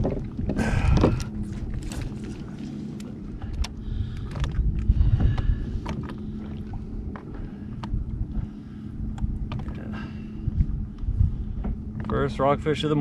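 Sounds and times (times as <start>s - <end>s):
water around a kayak: 0.0s - 13.0s
wind: 0.0s - 13.0s.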